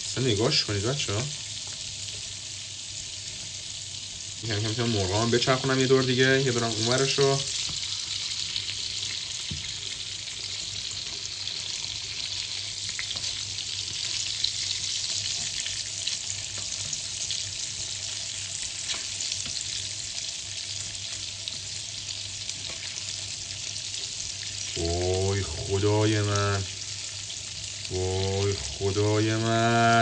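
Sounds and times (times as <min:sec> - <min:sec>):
chicken sizzling in a frying pan: 0:00.0 - 0:30.0.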